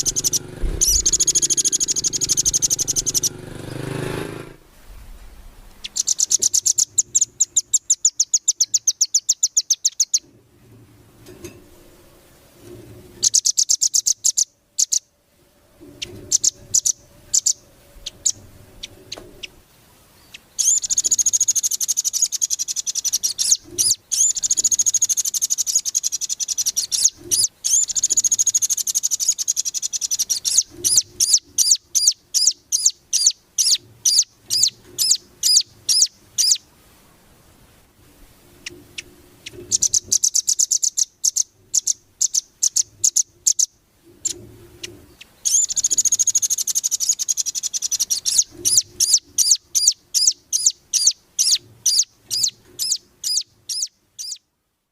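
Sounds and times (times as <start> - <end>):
bird singing high rattling trills: 0.0 - 4.6, 5.8 - 10.3, 13.2 - 15.1, 15.9 - 36.7, 38.6 - 54.5.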